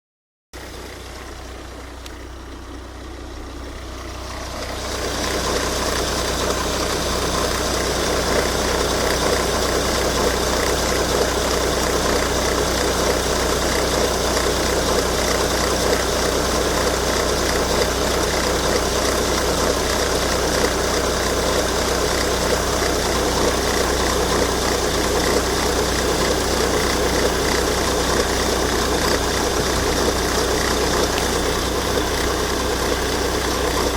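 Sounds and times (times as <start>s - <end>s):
diesel car engine idling: 0.6s - 33.9s
resonating belt drive noise: 4.2s - 33.9s.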